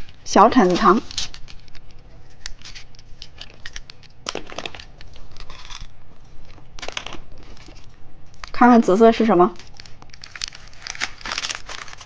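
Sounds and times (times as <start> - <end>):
plastic wrapper crinkling and tearing: 0.0 - 8.6, 9.6 - 12.0.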